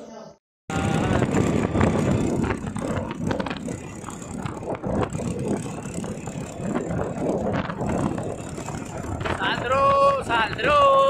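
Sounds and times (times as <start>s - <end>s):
vehicle low rumble: 0.7s - 11.0s
rattles and knocks: 1.1s - 10.8s.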